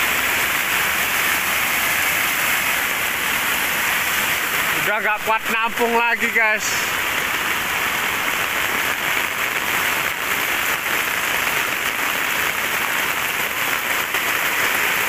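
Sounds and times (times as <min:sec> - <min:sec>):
floodwater rushing over drain: 0:00.0 - 0:15.0
heavy rain: 0:00.0 - 0:15.0.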